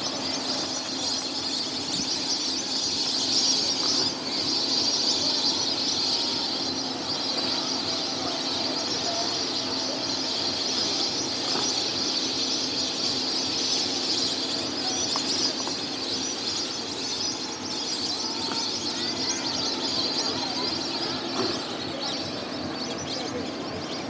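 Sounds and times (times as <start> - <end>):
flock of birds chirping: 0.0 - 24.0.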